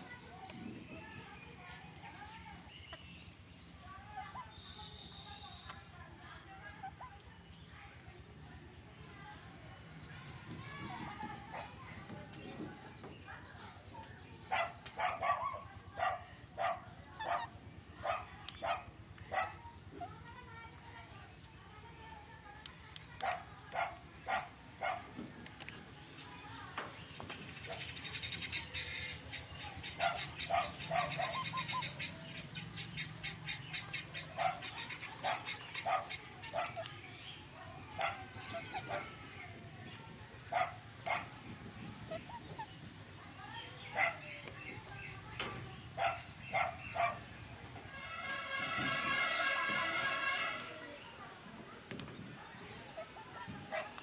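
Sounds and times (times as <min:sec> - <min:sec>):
birds chirping: 0:00.0 - 0:54.0
low steady background noise: 0:00.0 - 0:54.0.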